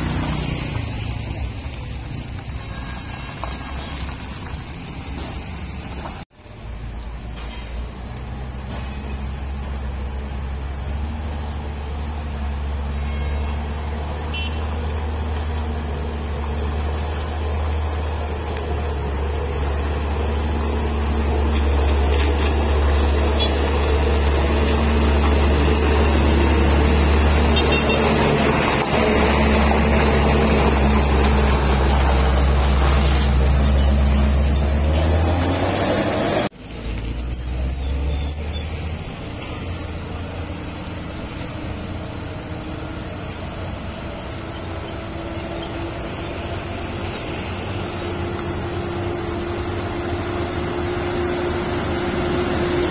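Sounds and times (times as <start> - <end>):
diesel truck engines passing: 0.0 - 52.9.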